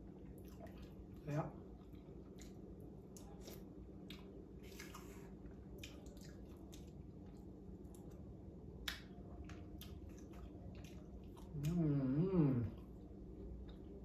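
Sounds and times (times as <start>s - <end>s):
person chewing: 1.8s - 14.0s.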